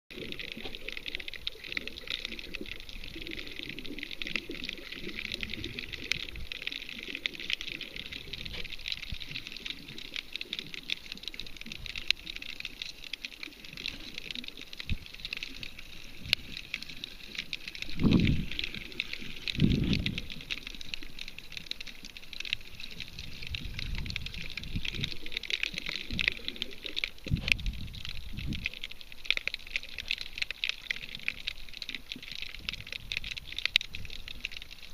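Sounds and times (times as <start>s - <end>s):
underwater crackle of clicks: 0.1s - 34.9s.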